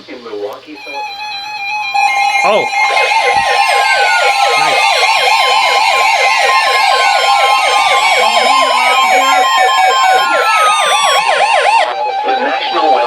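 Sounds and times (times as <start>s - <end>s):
weather radio alarm: 0.8s - 13.0s.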